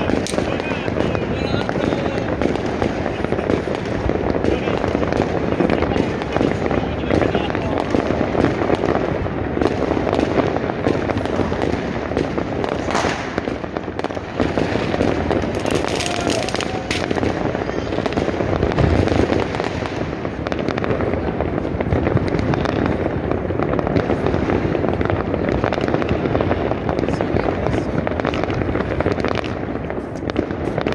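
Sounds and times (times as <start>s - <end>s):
distant fireworks crackling and popping: 0.0s - 30.9s
loud firework bangs: 0.0s - 30.9s.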